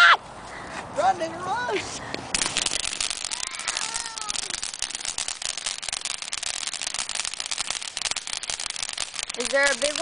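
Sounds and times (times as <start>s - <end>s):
firecrackers crackling: 1.6s - 10.0s.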